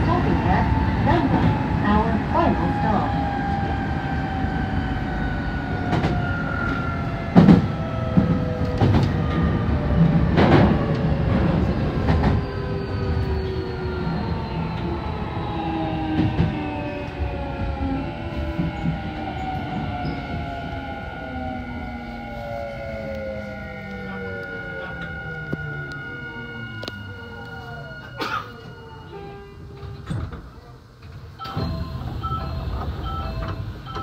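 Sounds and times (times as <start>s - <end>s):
train traction motor whine: 0.0s - 30.4s
train running rumble: 0.0s - 34.0s.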